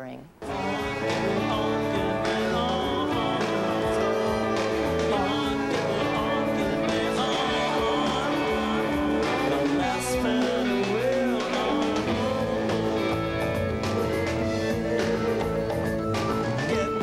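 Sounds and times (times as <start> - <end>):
band music with guitar and keyboard: 0.4 - 17.0
person singing: 0.5 - 13.6, 16.5 - 17.0.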